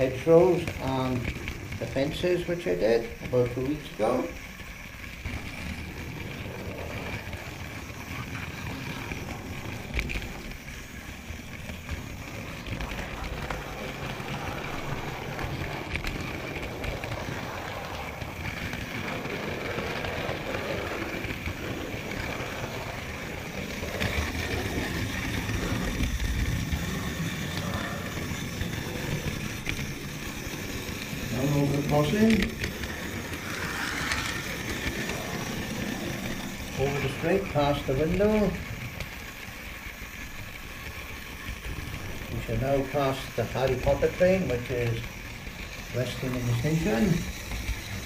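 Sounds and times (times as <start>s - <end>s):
high whine: 0.0s - 48.0s
model train rumbling on track: 0.0s - 48.0s.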